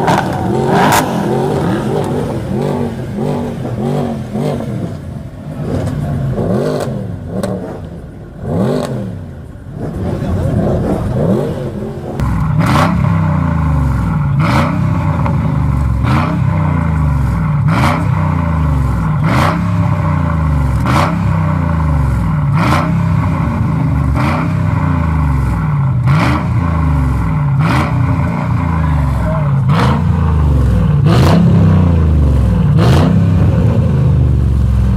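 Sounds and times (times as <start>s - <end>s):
car engine revving: 0.0s - 34.9s
exhaust cracks: 0.0s - 34.9s.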